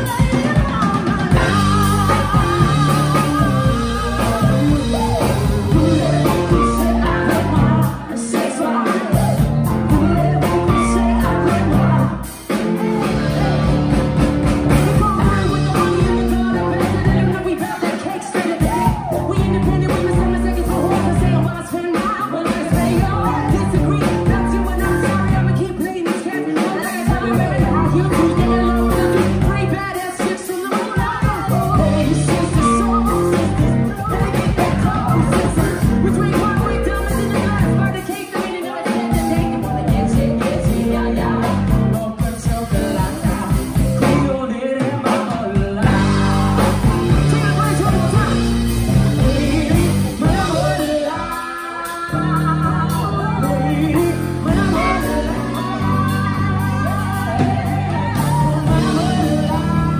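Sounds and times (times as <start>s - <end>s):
electric bass: 0.0s - 8.2s, 9.1s - 17.6s, 18.6s - 21.8s, 22.5s - 25.8s, 27.1s - 30.0s, 31.2s - 38.1s, 39.0s - 44.5s, 45.7s - 59.9s
drum kit: 0.0s - 59.9s
electric guitar: 0.0s - 59.9s
women singing: 0.0s - 59.9s.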